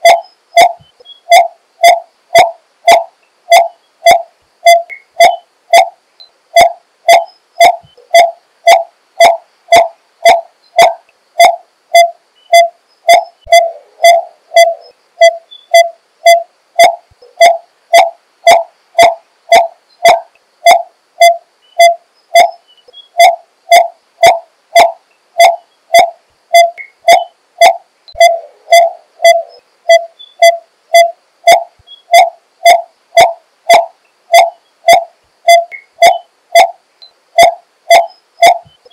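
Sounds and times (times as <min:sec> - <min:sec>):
bird calling single pitched notes: 0:00.0 - 0:06.0, 0:06.6 - 0:36.8.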